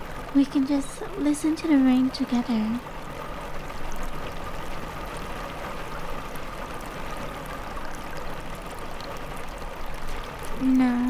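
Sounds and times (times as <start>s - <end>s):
raindrop ticks: 0.0s - 11.0s.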